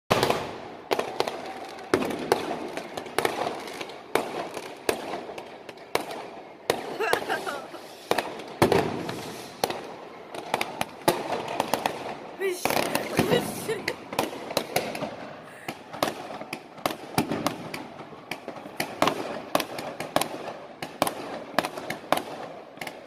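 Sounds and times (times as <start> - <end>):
fireworks bangs echoing: 0.1 - 23.0.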